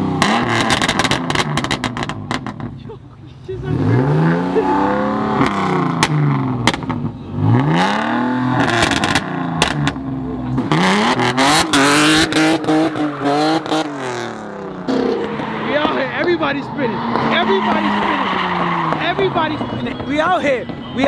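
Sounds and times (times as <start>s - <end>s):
car engine revving hard: 0.0s - 2.7s, 3.6s - 20.1s
tyres screeching: 0.4s - 21.0s.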